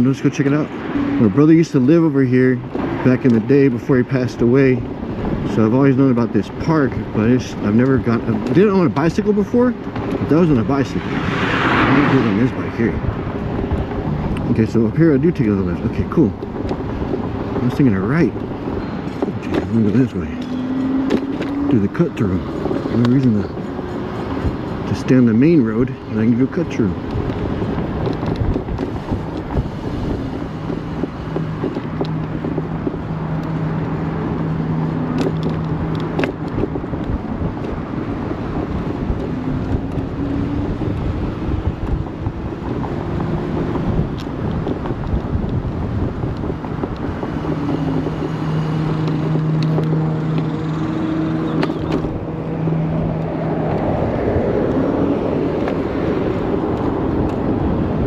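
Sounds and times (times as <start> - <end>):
wind noise: 0.0 - 58.0.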